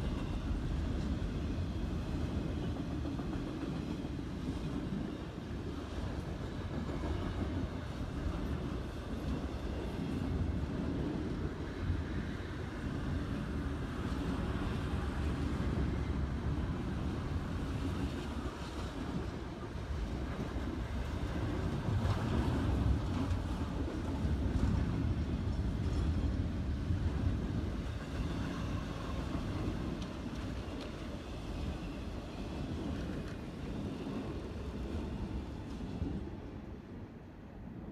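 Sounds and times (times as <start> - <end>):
freight train rolling past: 0.0 - 37.9.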